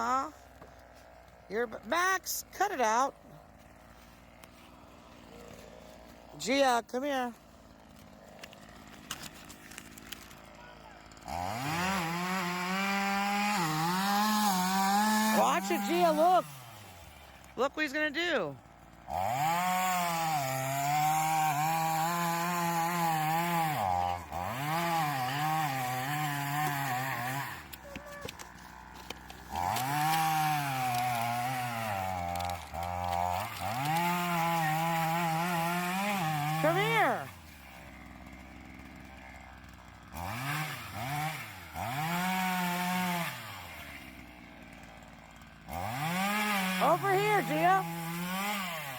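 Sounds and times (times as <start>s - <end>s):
chainsaw cutting tree: 0.0s - 48.9s.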